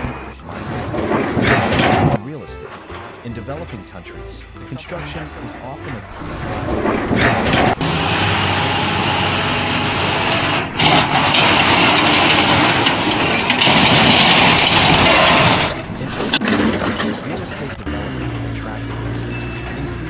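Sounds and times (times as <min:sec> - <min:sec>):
heavy machine running: 0:00.0 - 0:20.0.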